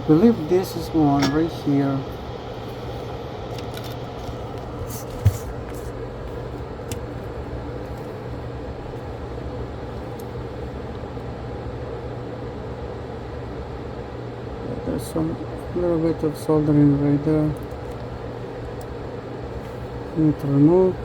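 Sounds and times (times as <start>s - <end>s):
fan whirring: 0.0s - 21.0s.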